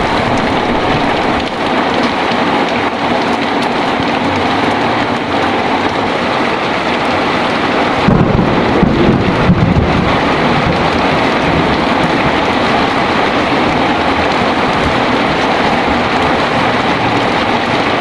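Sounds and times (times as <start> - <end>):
heavy rain falling: 0.0 - 18.0
thunder rumbling: 0.0 - 18.0.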